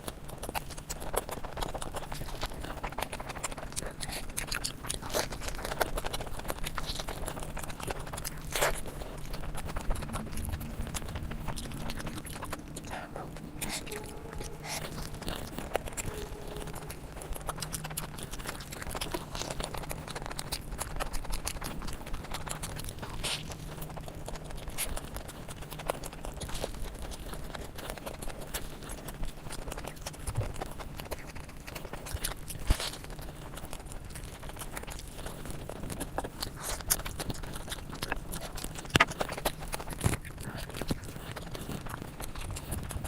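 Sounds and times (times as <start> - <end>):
chewing with wet mouth clicks: 0.0 - 43.0
steady low hum: 0.0 - 43.0.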